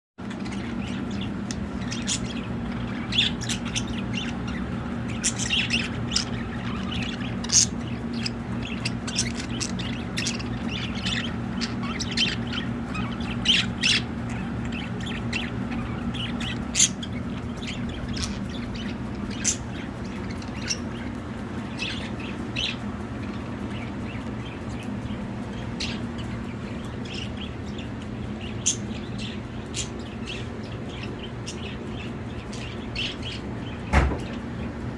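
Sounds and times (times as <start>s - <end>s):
budgerigars chirping and squawking: 0.2s - 34.9s
steady low hum: 0.2s - 34.9s.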